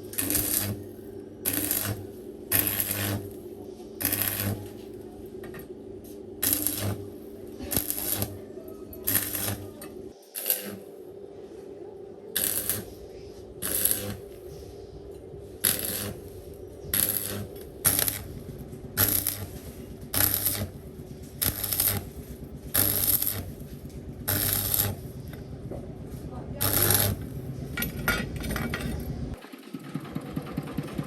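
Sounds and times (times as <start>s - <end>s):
steady low hum: 0.0s - 29.4s.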